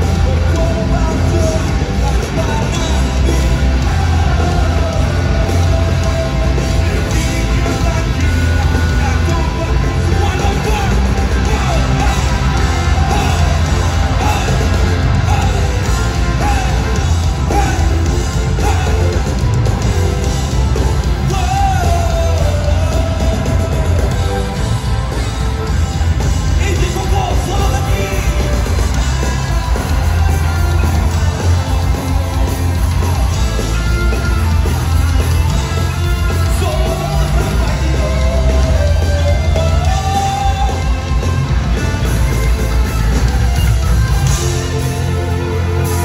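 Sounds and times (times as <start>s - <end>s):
person singing and yelling: 0.0s - 19.8s, 20.9s - 25.6s, 26.5s - 42.3s
live rock band: 0.0s - 46.0s.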